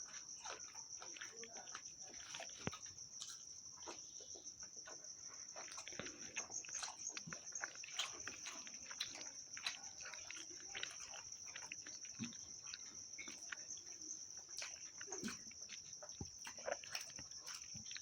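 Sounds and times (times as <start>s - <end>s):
person chewing with wet smacks: 0.0s - 18.0s.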